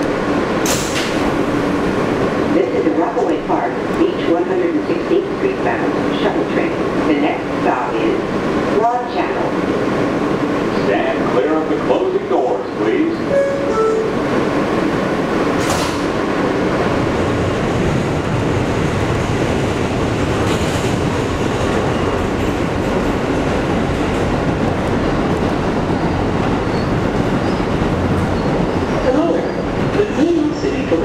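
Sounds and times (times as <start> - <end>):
train wheels on rails: 0.0 - 31.0.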